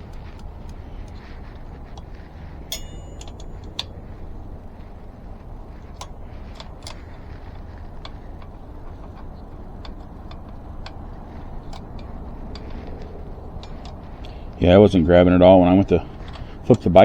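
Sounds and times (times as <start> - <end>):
low background rumble: 0.0 - 17.0
tools clicking on metal parts: 0.0 - 17.0.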